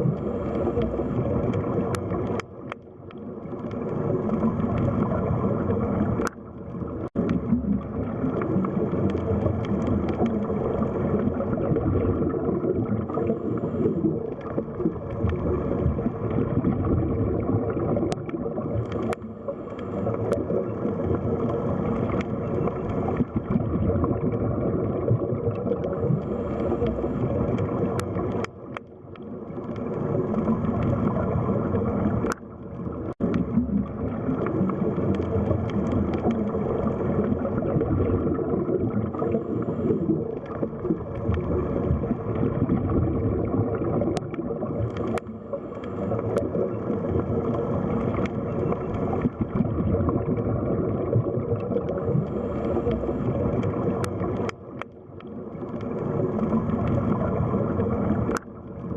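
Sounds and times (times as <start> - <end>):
faint underwater clicks: 0.0 - 58.9
muffled underwater water rush: 0.0 - 58.9.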